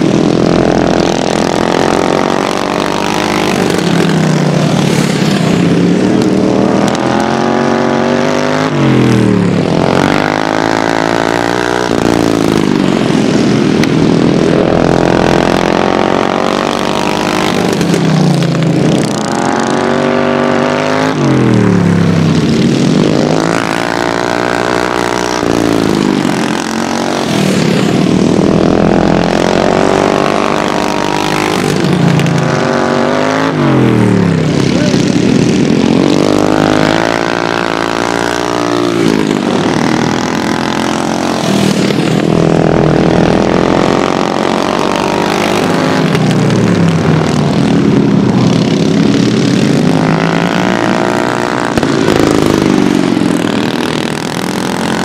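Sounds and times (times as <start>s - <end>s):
racing lawnmower engines: 0.0s - 55.0s.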